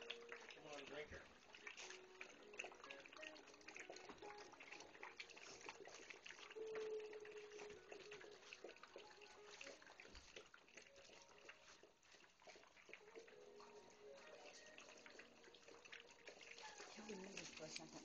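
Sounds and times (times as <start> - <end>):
water bubbling and gurgling: 0.0 - 17.5.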